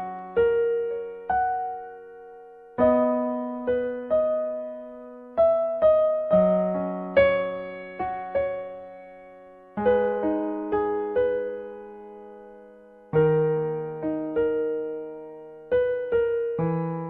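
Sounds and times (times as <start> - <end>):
gentle electric piano melody: 0.0 - 17.0.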